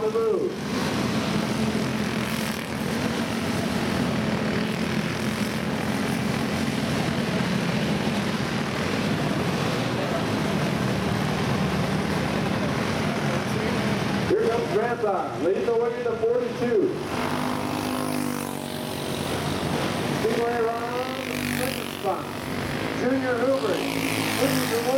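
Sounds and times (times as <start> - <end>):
racing kart engines buzzing: 0.0 - 24.9.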